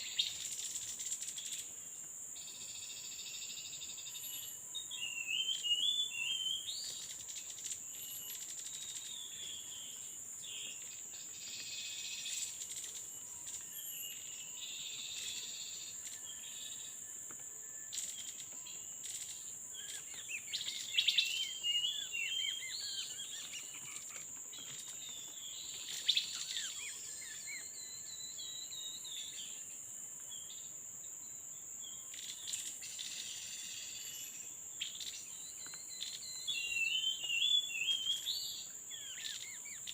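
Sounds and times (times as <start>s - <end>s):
small birds chirping: 0.0s - 39.9s
high-pitched insect drone: 2.4s - 29.8s, 32.1s - 39.9s.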